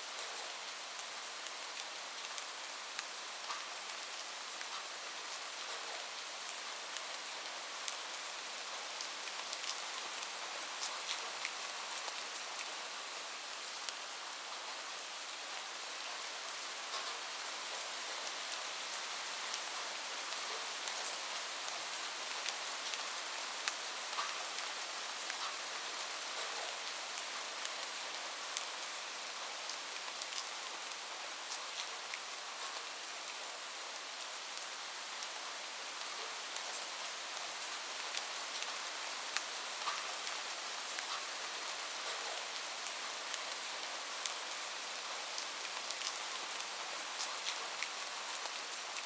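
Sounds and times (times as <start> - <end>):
rain on a roof: 0.0 - 49.0.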